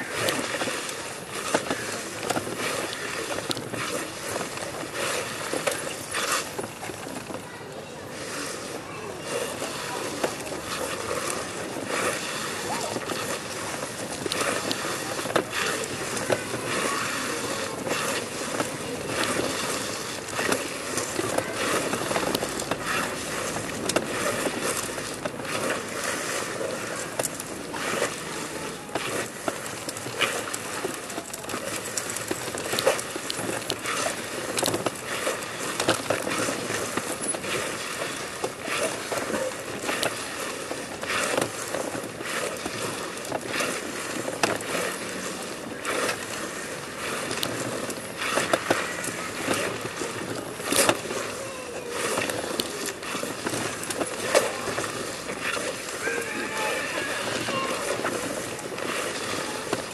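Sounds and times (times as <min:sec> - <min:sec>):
body dragging across stones: 0:00.0 - 0:59.9.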